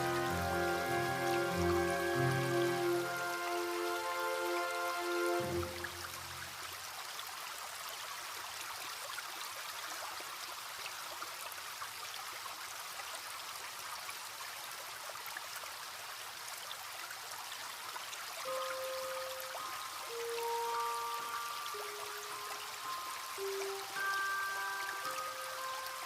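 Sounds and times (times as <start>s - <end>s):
stream trickling: 0.0s - 26.0s.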